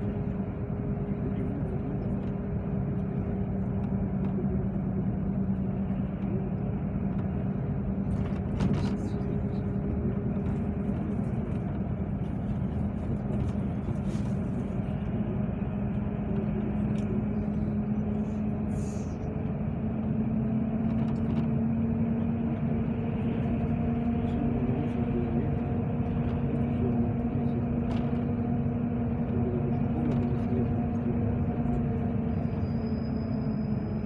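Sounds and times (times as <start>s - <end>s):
vehicle engine and tyre rumble: 0.0s - 34.0s.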